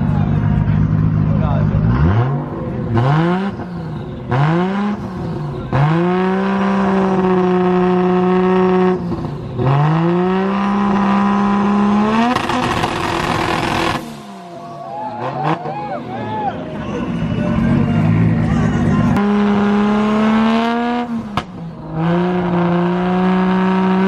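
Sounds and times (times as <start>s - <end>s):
car engine revving hard: 1.6s - 15.8s, 17.6s - 24.0s.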